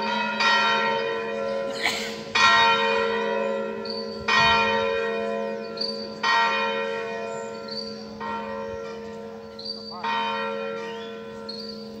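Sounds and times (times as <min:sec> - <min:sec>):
church bells pealing: 0:00.0 - 0:12.0.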